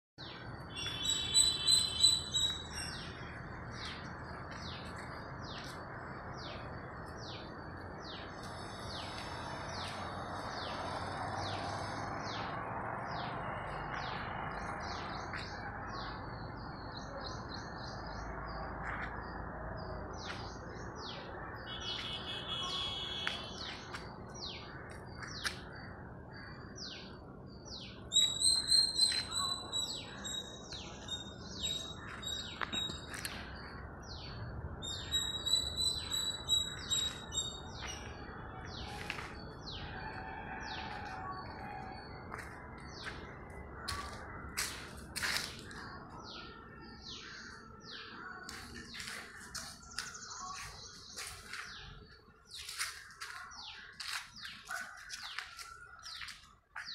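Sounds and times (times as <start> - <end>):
birds chirping: 0.2 - 56.9.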